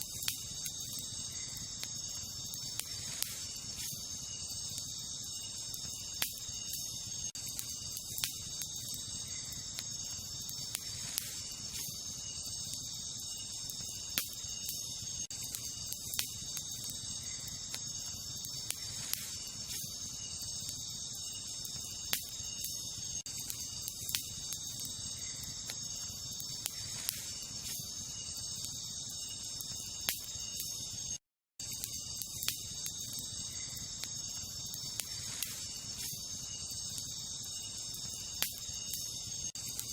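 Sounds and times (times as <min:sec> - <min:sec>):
campfire crackling: 0:00.0 - 0:39.9
crickets chirping: 0:00.0 - 0:39.9
fire pops and snaps: 0:00.0 - 0:39.9.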